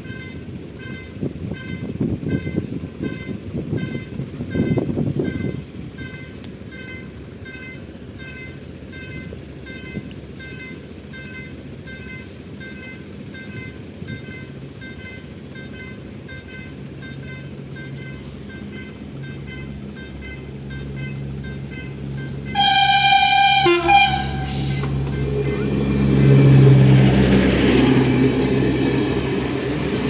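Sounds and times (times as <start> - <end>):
low train rumble: 0.0 - 30.0.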